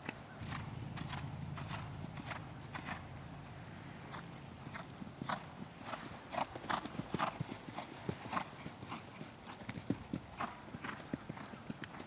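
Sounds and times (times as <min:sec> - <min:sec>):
horse hoofbeats on sand: 0:00.4 - 0:12.0.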